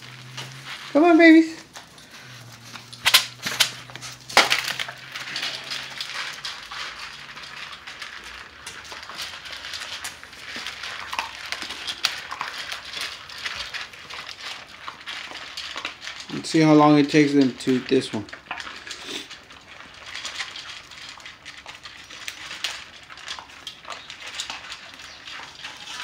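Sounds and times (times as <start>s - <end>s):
puppies crunching dry kibble: 0.0s - 26.0s.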